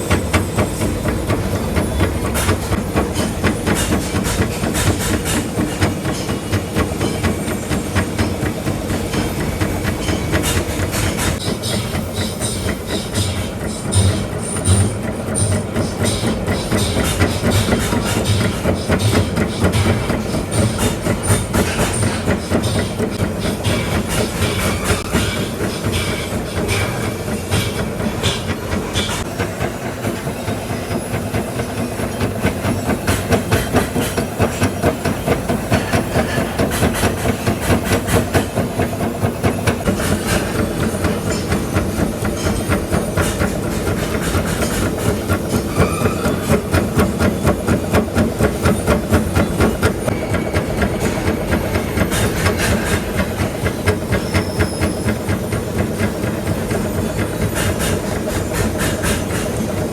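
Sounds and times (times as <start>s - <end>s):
workshop machinery clattering: 0.0s - 59.9s.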